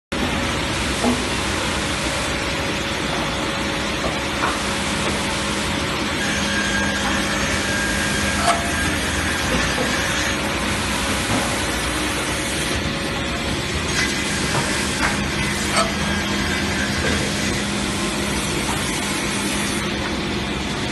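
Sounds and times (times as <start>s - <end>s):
edger machine running: 0.2s - 20.9s.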